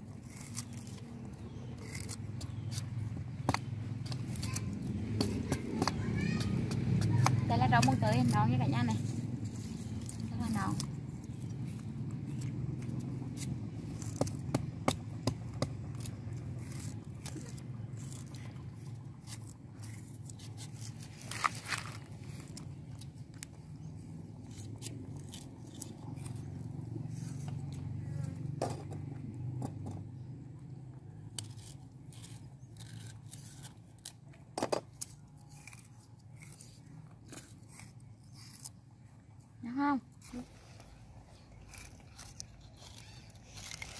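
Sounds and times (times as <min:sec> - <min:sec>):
knife peeling food: 0:00.0 - 0:30.2, 0:31.0 - 0:43.9
low steady rumble: 0:00.0 - 0:43.9.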